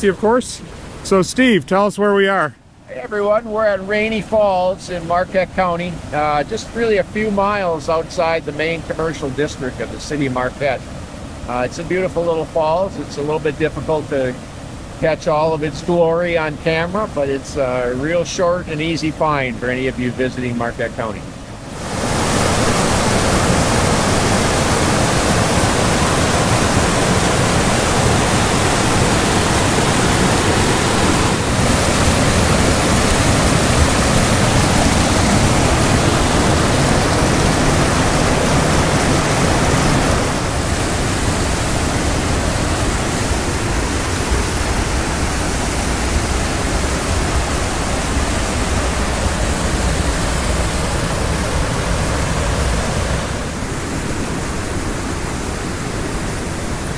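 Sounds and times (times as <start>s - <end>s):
waterfall and rapids rushing: 0.0s - 56.9s.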